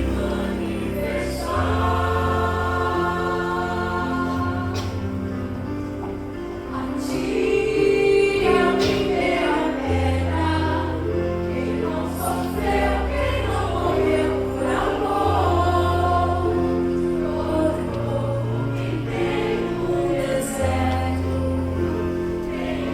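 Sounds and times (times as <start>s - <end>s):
group of voices singing: 0.0s - 22.9s.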